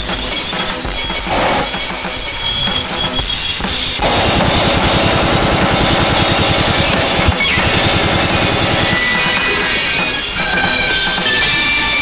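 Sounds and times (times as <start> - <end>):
distorted electronic noise music: 0.0 - 12.0
fast low stutter: 0.0 - 12.0
high whistling tones: 0.0 - 12.0.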